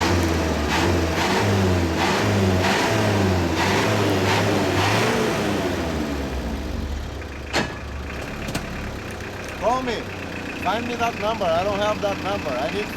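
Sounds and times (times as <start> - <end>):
diesel engine revving and idling: 0.0 - 12.9.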